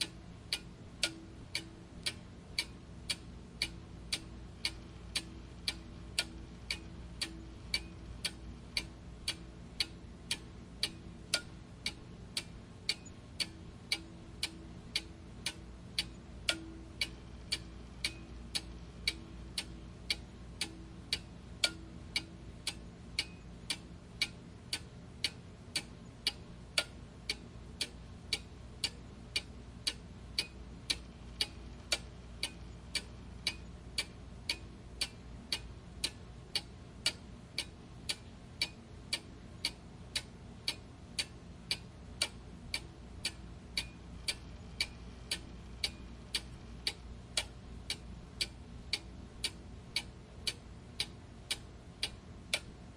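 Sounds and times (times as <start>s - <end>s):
clock ticking: 0.0s - 52.9s
faint low hum: 0.0s - 52.9s.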